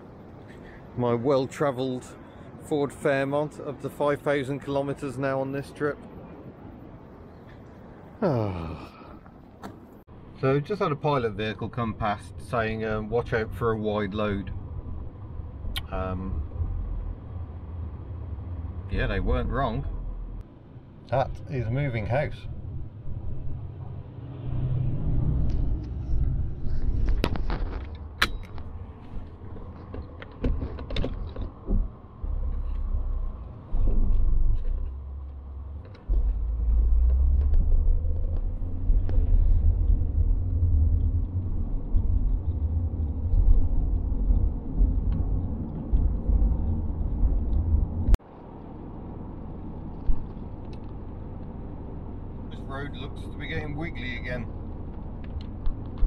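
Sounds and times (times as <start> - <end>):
car road noise rumble: 0.0 - 56.0.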